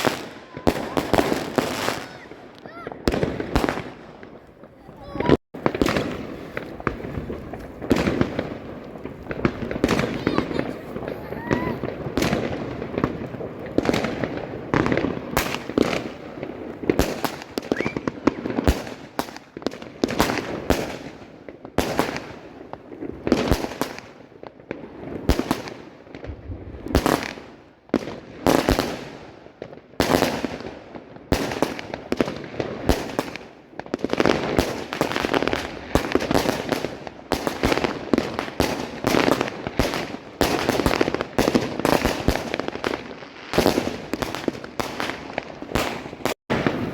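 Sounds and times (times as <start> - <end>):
fireworks bangs and pops: 0.0 - 46.9
fireworks crackling: 0.0 - 46.9.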